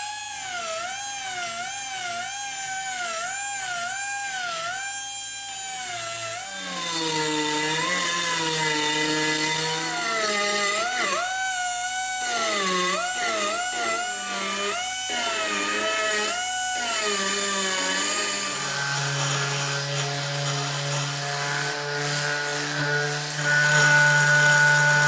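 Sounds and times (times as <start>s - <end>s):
grinder motor whine on metal: 0.0s - 25.0s.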